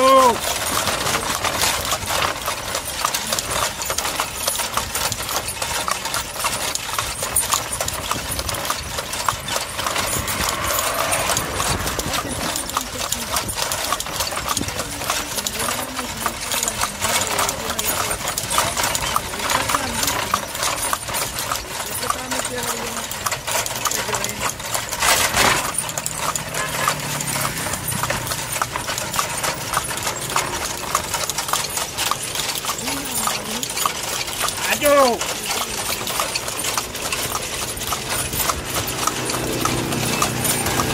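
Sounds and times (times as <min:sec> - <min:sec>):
hooves clip-clopping on asphalt: 0:00.0 - 0:40.9.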